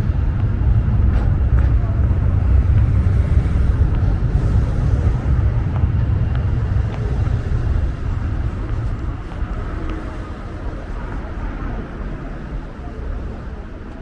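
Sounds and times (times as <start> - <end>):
low city rumble: 0.0 - 14.0
noisy hiss: 0.0 - 14.0.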